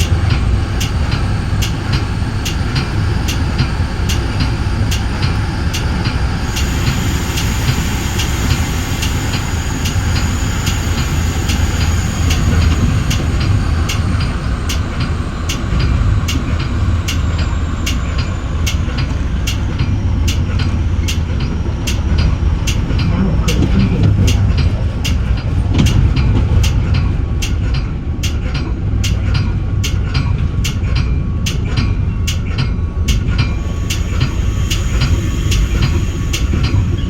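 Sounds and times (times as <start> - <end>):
train rumbling on track: 0.0 - 37.0
train wheels clicking: 0.0 - 37.0.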